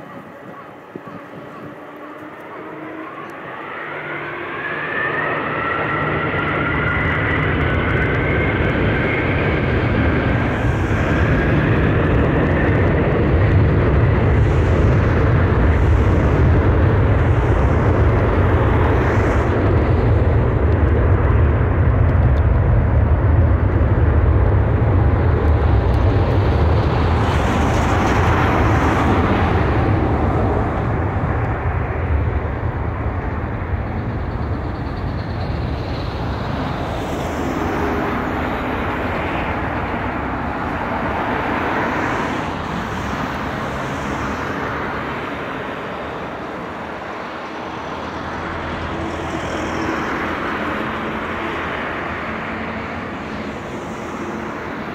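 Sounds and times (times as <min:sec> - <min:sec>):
distant jet engines rumbling: 0:00.0 - 0:54.9.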